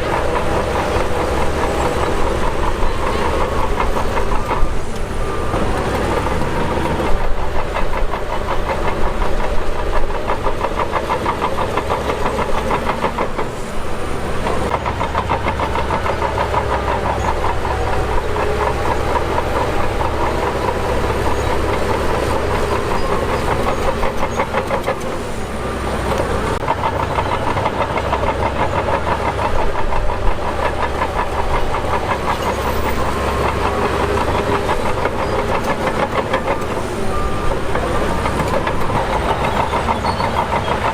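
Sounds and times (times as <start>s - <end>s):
diesel engine under load: 0.0s - 40.9s
tracks clattering: 0.0s - 40.9s.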